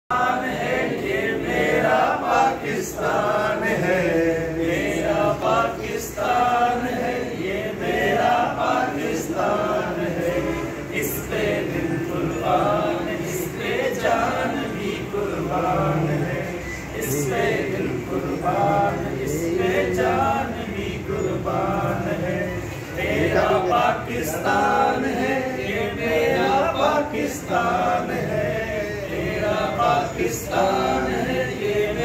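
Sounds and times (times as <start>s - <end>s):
men singing in chorus: 0.1s - 32.0s.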